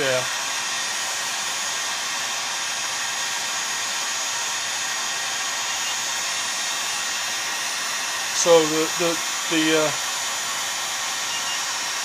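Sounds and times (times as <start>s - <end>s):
heat gun blowing hiss: 0.0s - 12.0s.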